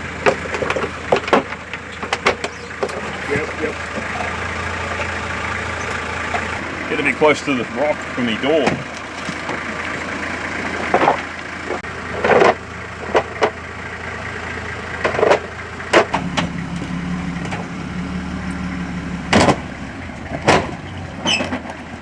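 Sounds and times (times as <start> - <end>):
engine running at low revs: 0.0 - 22.0.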